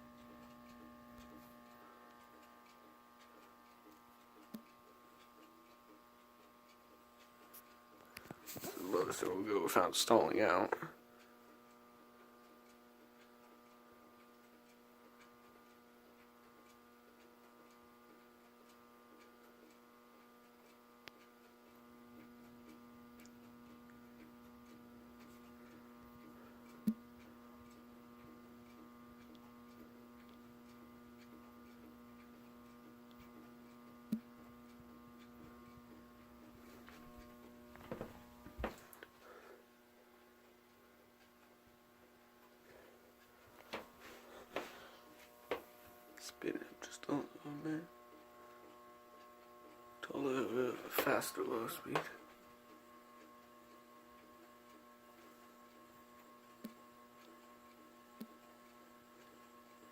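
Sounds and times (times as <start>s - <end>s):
ceiling fan electrical hum: 0.0s - 59.9s.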